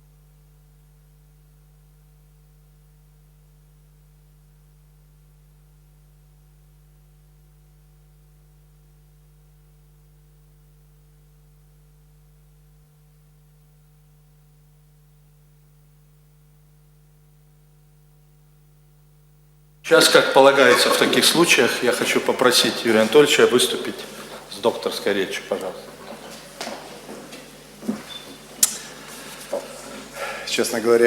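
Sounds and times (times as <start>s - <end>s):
mains hum: 0.0s - 31.0s.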